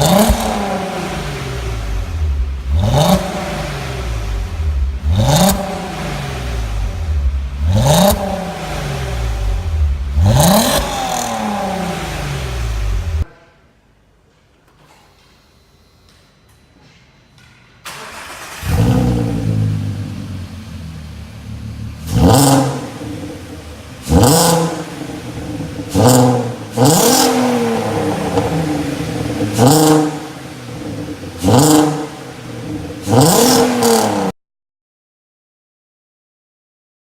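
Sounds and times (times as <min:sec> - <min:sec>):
car engine starting and revving: 0:00.0 - 0:13.2, 0:17.8 - 0:34.4.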